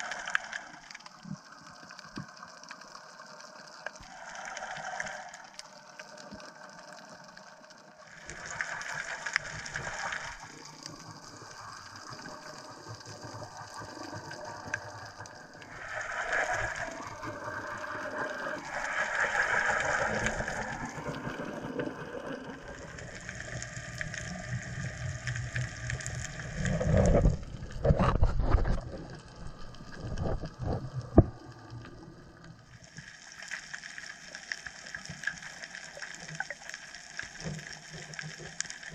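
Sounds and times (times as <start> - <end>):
underwater water surges: 0.0 - 38.9.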